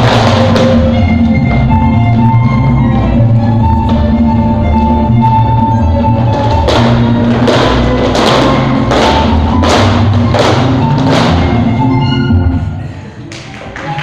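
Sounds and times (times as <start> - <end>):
dance music: 0.0 - 14.0.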